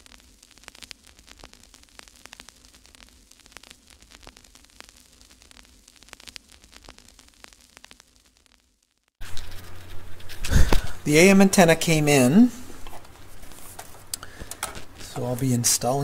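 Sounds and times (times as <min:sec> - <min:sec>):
crackling static hiss: 0:00.0 - 0:16.0.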